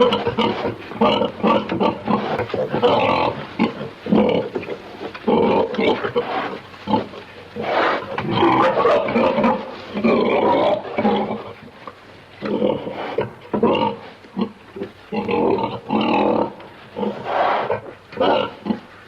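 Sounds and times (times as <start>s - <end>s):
pig grunting: 0.0s - 11.8s, 12.4s - 19.0s.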